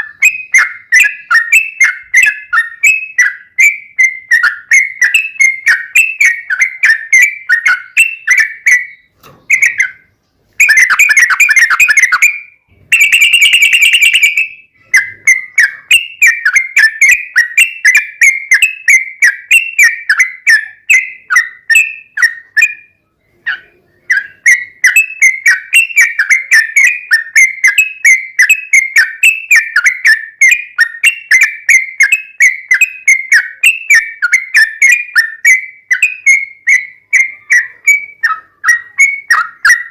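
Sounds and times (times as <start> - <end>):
bird trills: 0.0 - 39.9
bulbul whistled chirps: 0.0 - 39.9.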